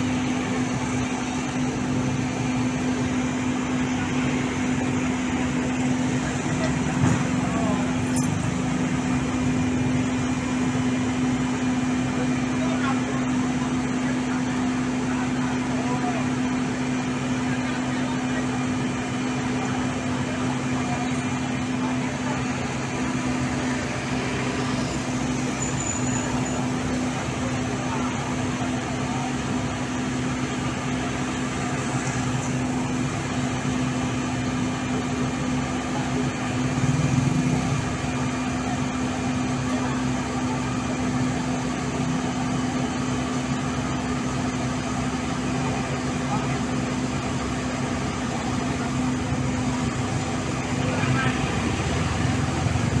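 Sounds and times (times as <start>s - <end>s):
heavy diesel engine humming: 0.0s - 53.0s.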